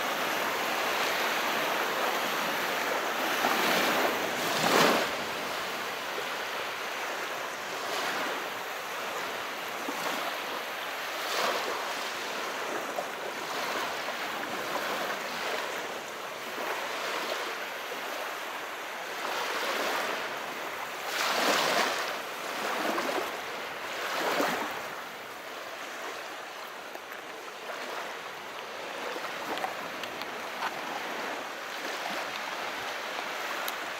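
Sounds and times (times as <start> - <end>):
sea waves washing ashore: 0.0 - 33.9.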